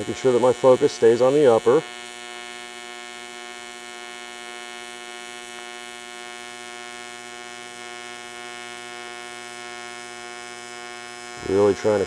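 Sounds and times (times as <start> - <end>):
welding arc buzzing: 0.0 - 12.0.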